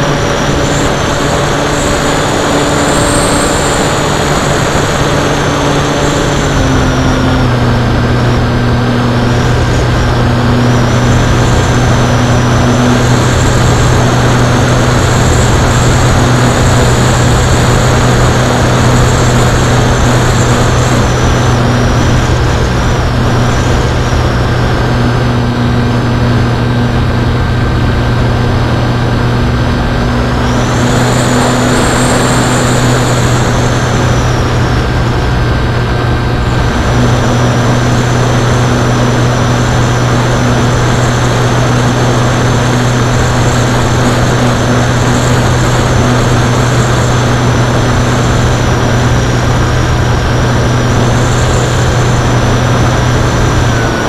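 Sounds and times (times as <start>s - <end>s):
electric motor drone and whine: 0.0s - 54.0s
wind rush: 0.0s - 54.0s.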